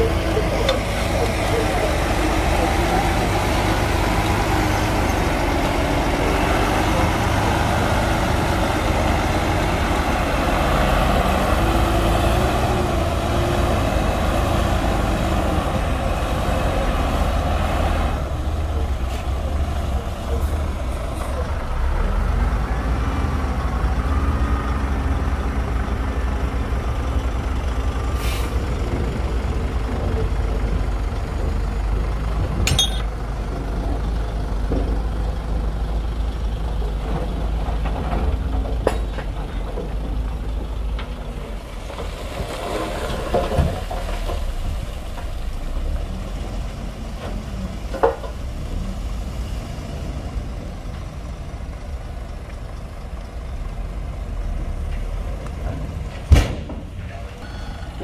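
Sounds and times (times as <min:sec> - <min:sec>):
heavy diesel engine rumble: 0:00.0 - 0:58.0.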